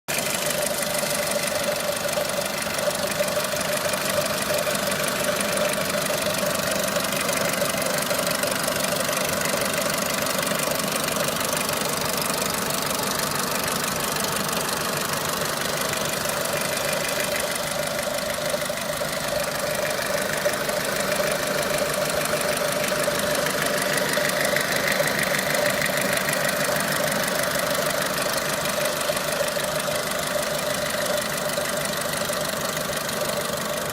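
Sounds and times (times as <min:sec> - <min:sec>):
car engine running steadily: 0:00.1 - 0:33.9.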